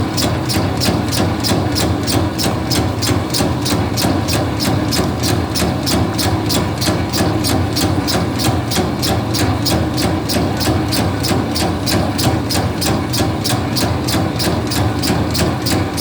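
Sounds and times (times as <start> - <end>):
machine clicking: 0.1 - 16.0
machine motor hum: 0.1 - 16.0.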